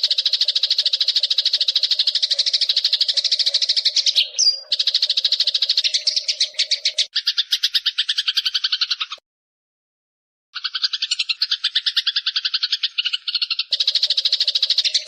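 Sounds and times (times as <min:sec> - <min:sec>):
sparrow rapid chattering call: 0:00.0 - 0:09.2, 0:10.6 - 0:15.0.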